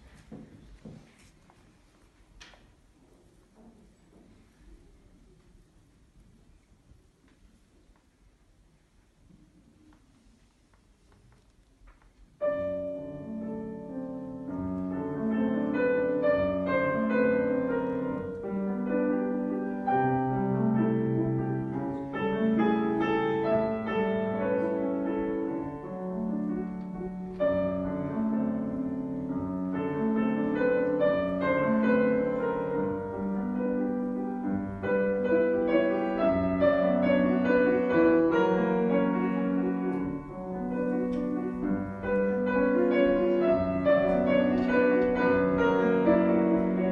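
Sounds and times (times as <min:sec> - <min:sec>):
solo piano classical piece: 0:00.0 - 0:46.9.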